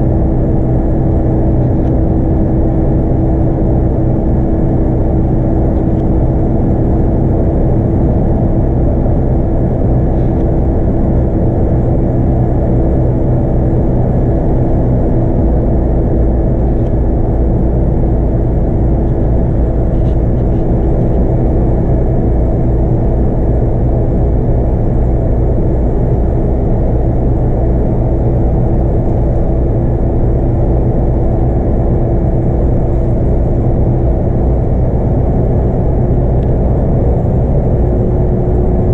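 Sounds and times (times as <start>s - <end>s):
bus diesel engine drone: 0.0s - 38.9s
road noise: 0.0s - 38.9s.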